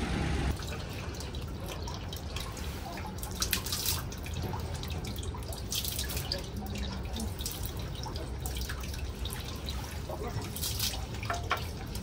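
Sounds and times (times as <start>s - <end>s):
water dripping and trickling: 0.5s - 12.0s.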